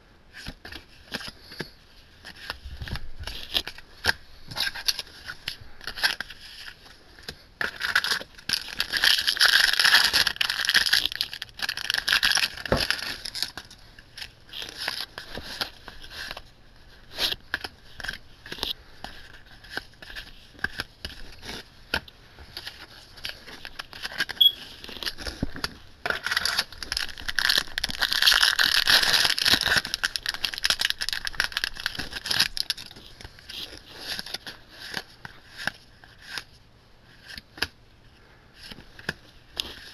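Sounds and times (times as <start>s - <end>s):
foil wrappers crinkling and tearing: 0.8s - 36.5s.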